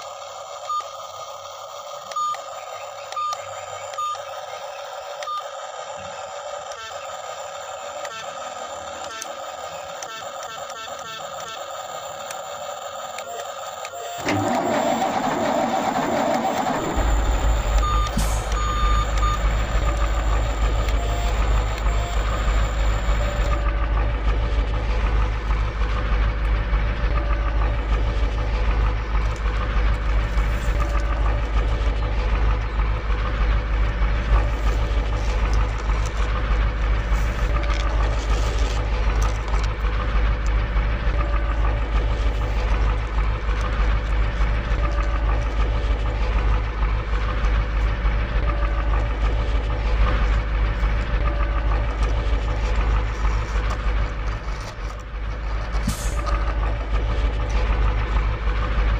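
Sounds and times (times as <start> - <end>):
truck reversing beeps: 0.0 - 53.7
truck engine rumbling: 0.0 - 58.9.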